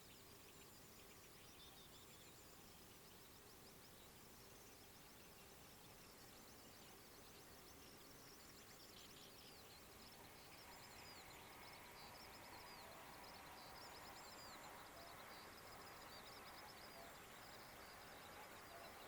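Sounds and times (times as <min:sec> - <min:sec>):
songbird chirping: 0:00.0 - 0:19.0.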